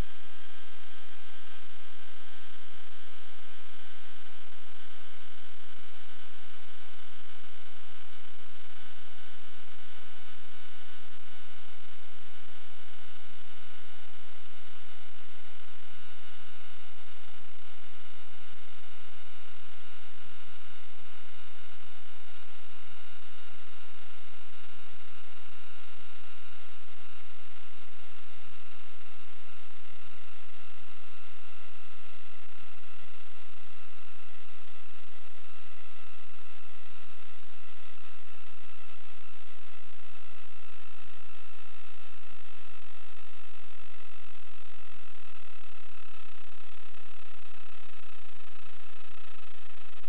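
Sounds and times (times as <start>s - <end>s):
electrical hum and hiss: 0.0s - 50.0s.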